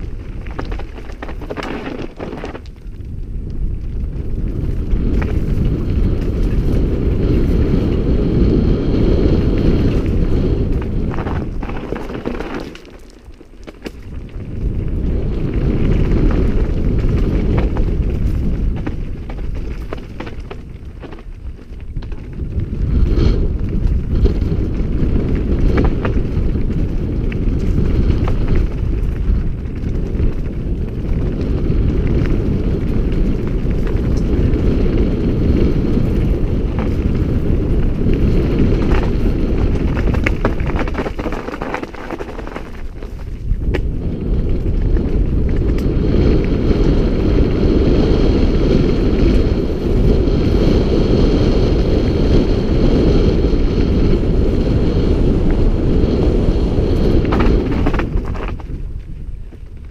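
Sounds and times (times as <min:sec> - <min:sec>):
bike clacking and rattling: 0:00.0 - 0:59.9
tyres rumbling over loose stones: 0:00.0 - 0:59.9
wind buffeting microphone: 0:00.0 - 0:59.9.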